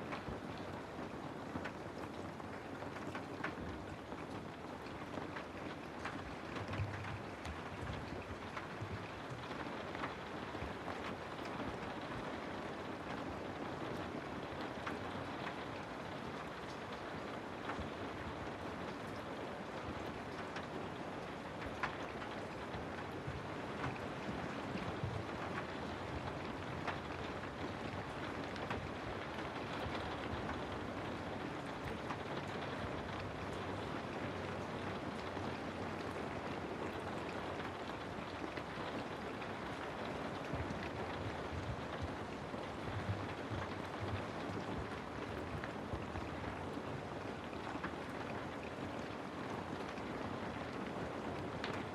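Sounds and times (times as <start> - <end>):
steady rain hiss: 0.0 - 51.9.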